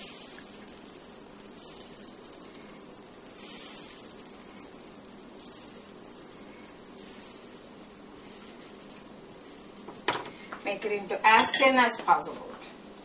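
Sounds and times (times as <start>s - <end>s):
batter sizzling on a pan: 0.0s - 13.0s.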